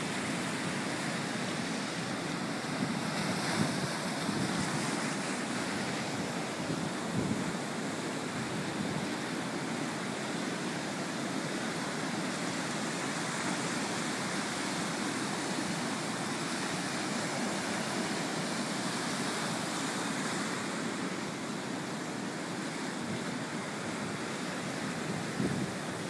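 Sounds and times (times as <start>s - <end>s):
waves washing on sand: 0.0s - 26.0s.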